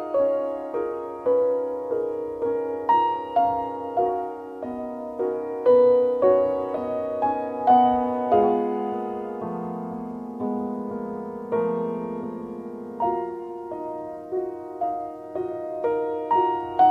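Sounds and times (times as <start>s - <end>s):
piano music: 0.0s - 16.9s.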